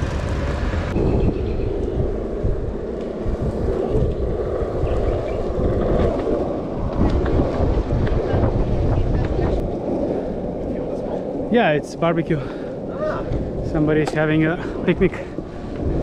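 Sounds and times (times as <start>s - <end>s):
longboard wheels rolling on pavement: 0.0s - 16.0s
wind buffeting microphone: 0.0s - 16.0s.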